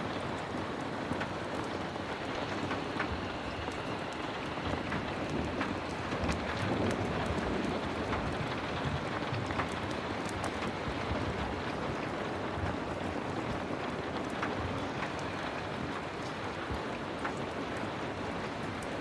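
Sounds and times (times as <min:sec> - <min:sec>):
firewood crackling in a stove: 0:00.0 - 0:19.0
heavy rain falling: 0:00.0 - 0:19.0.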